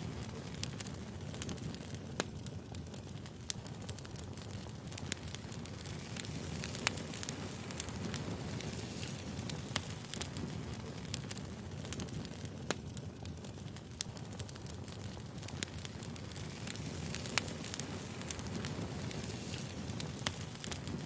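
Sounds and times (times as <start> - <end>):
firewood crackling: 0.0 - 21.0.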